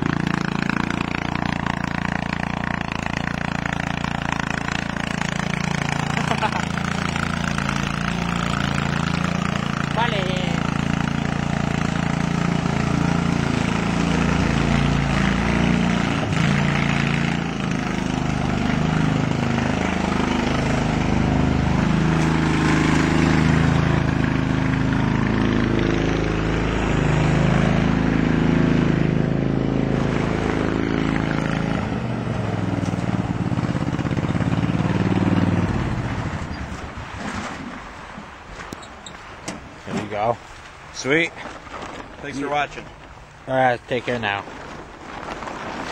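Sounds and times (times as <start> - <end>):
lawn tractor engine running: 0.0 - 40.2.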